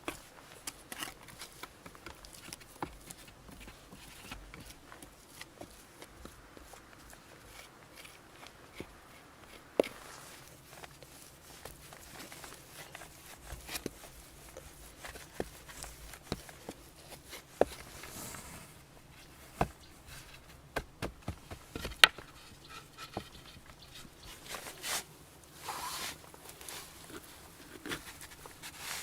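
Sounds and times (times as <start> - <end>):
soft rustling: 0.0 - 29.0.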